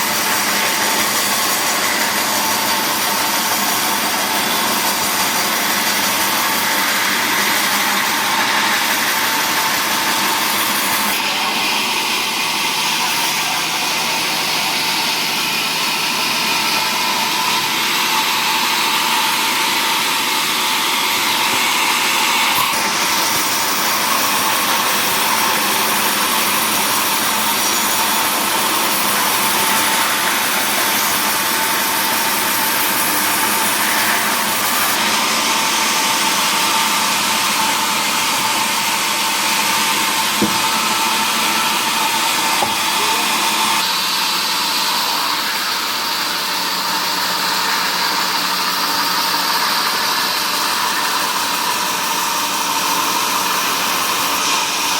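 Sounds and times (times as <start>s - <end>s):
sawmill machinery humming: 0.0s - 54.9s.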